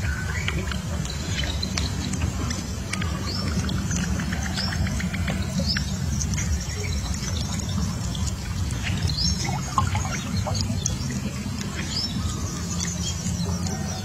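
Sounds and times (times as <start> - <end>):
low rumble: 0.0 - 14.0
small clicks and patter: 0.0 - 14.0
young bird peeping: 0.0 - 14.0.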